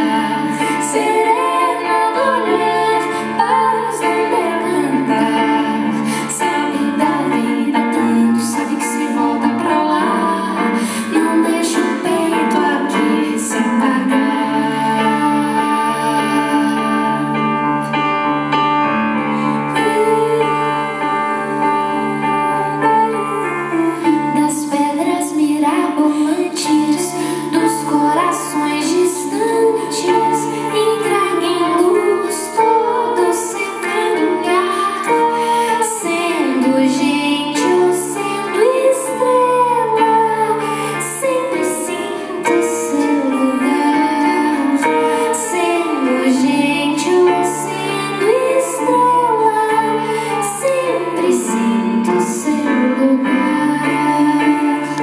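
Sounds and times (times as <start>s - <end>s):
woman singing into a microphone: 0.0s - 18.0s, 19.4s - 55.0s
grand piano: 0.0s - 55.0s.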